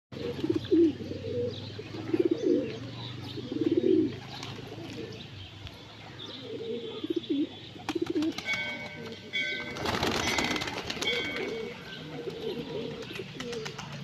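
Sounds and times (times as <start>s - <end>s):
pigeons cooing: 0.2s - 14.0s.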